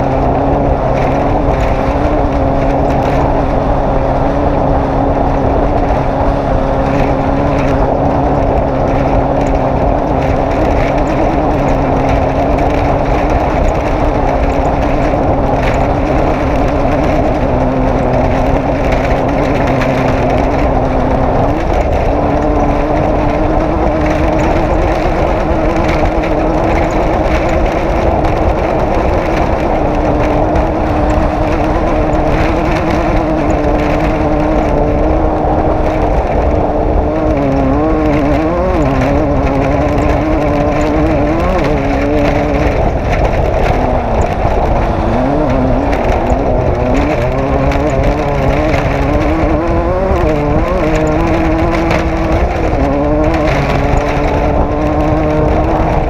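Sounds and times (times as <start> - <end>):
race vehicle engine running hard: 0.0 - 56.0.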